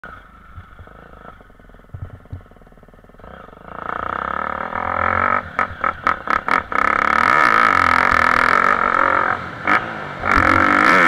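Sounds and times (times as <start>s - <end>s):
motocross bike engine: 0.0s - 11.0s.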